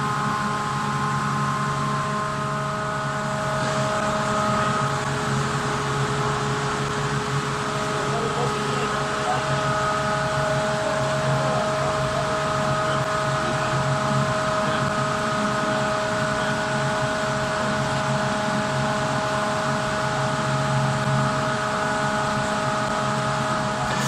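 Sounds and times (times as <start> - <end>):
forging machinery drone: 0.0 - 24.0
whining machine tones: 0.0 - 24.0.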